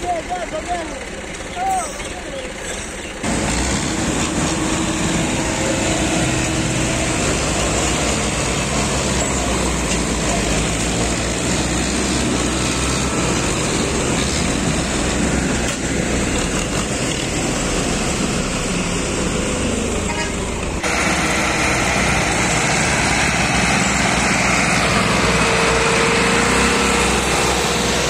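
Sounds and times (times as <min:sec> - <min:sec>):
tractor engines droning: 0:00.0 - 0:28.0.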